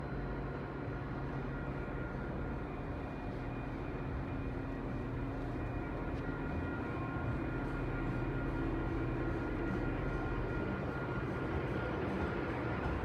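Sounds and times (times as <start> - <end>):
diesel locomotive running: 0.0 - 13.0.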